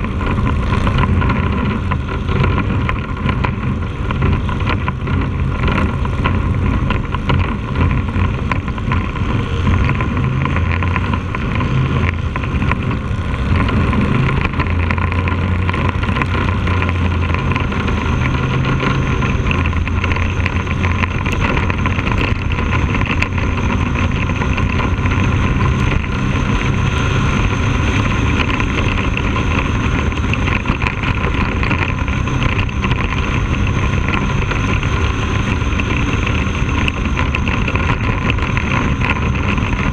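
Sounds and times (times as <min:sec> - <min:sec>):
race car engine: 0:00.0 - 0:39.9
wind on microphone: 0:00.0 - 0:39.9.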